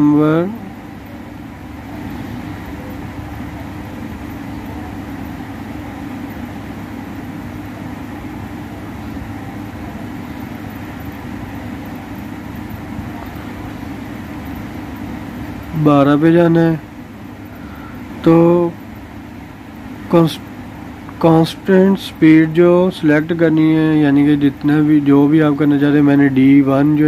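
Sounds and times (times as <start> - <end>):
low mechanical hum and rumble: 0.0 - 27.0.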